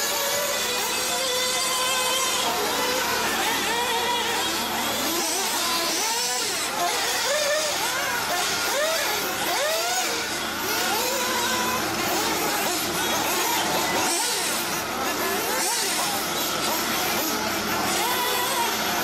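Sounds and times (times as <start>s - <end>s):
model car engines revving: 0.0s - 19.0s.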